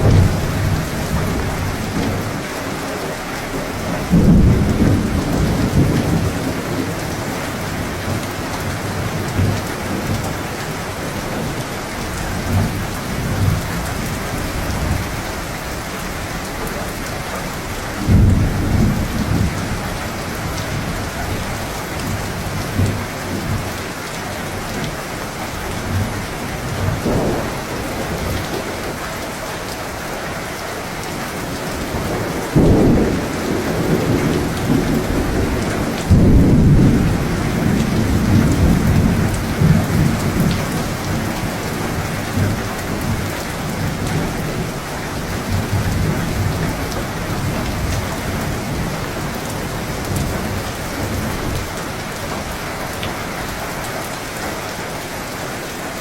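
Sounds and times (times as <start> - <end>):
thunder claps rumbling: 0.0 - 23.7, 25.2 - 30.2, 30.8 - 52.6
heavy rain on surfaces: 0.0 - 56.0.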